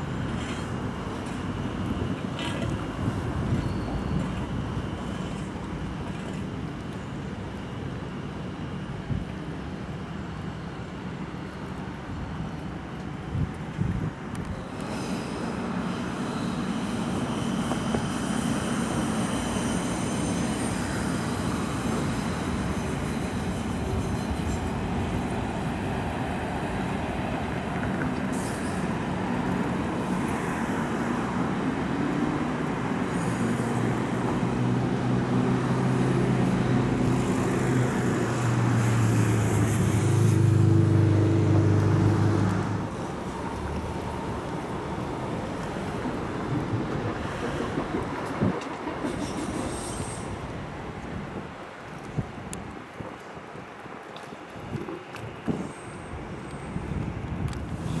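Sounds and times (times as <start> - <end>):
train wheels rumbling on rails: 0.0 - 9.4, 12.6 - 53.2.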